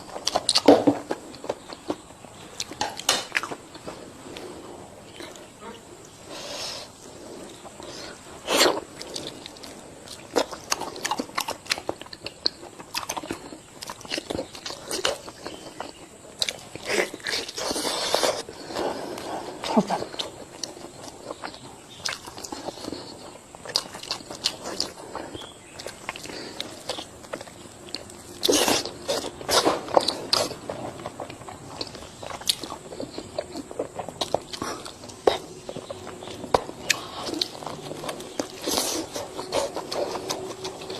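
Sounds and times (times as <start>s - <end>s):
person eating crunchy food: 0.0s - 40.9s.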